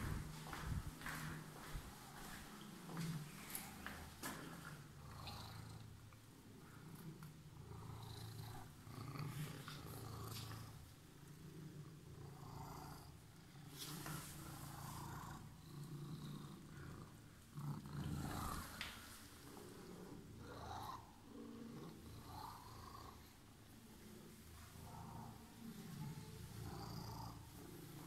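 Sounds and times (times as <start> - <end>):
cat purring: 1.9 - 28.0.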